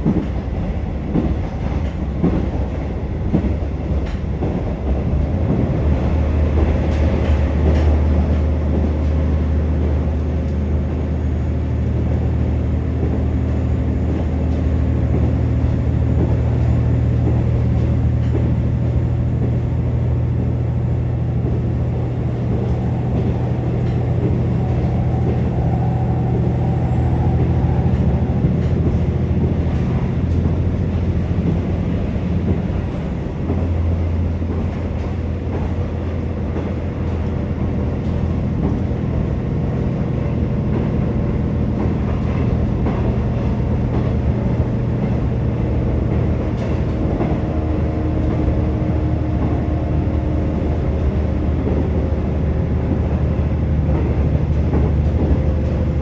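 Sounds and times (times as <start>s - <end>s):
diesel engine drone: 4.9s - 56.0s.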